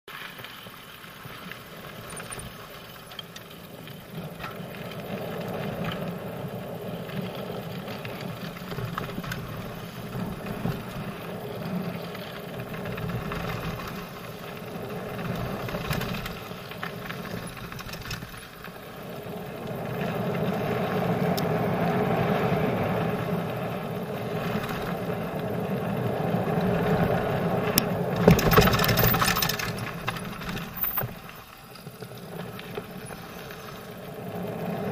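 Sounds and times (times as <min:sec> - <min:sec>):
bike tyres on gravel: 0:00.1 - 0:34.9
bike rattling over bumps: 0:00.2 - 0:34.9.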